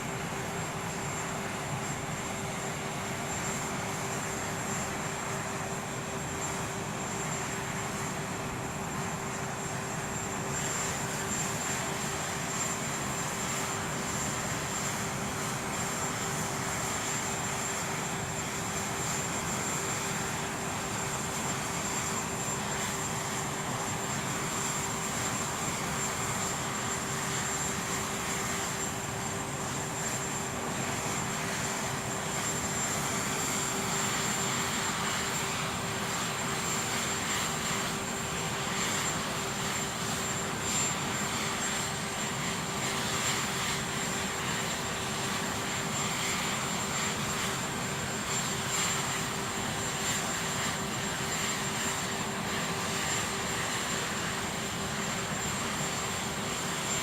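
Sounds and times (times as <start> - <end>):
aircraft engines running: 0.0 - 57.0.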